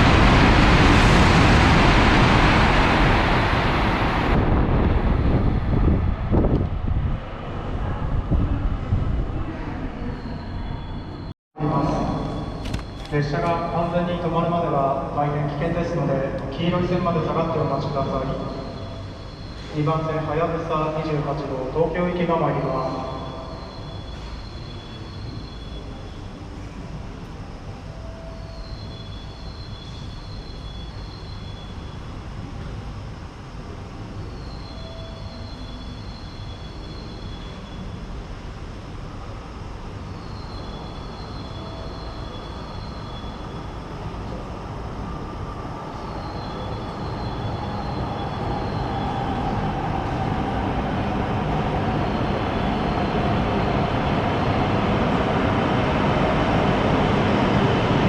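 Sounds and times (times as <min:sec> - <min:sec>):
train rushing into station: 0:00.0 - 0:58.0.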